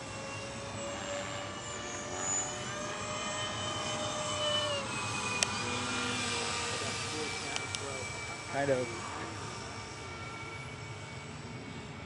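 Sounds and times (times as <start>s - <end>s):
electric ducted fans whining: 0.0s - 12.0s.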